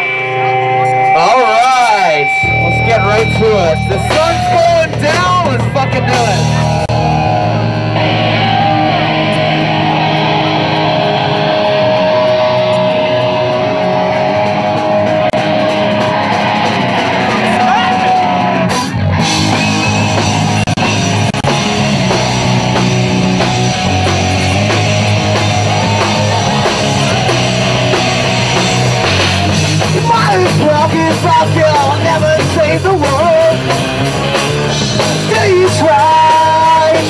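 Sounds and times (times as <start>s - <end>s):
bass guitar: 0.0s - 37.0s
distorted electric guitars: 0.0s - 37.0s
drum kit: 0.0s - 37.0s.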